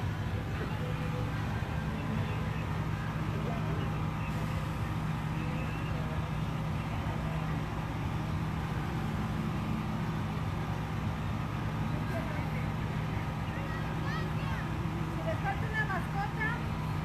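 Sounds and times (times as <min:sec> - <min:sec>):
vehicle engines rolling past: 0:00.0 - 0:17.0.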